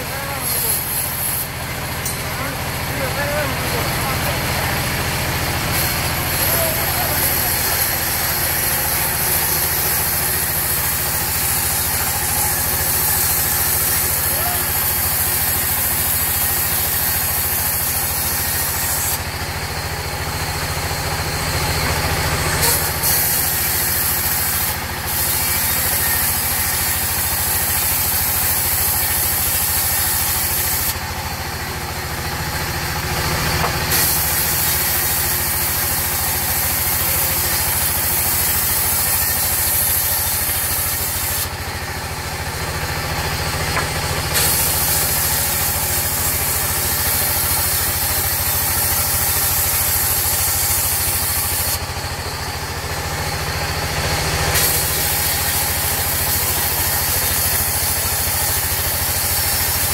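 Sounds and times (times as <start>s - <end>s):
band saw blade cutting timber: 0.0s - 59.9s.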